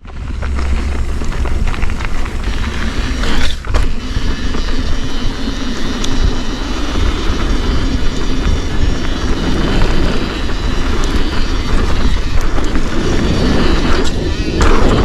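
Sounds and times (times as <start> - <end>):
bike tyre noise: 0.0 - 14.1
wind buffeting microphone: 0.0 - 15.0.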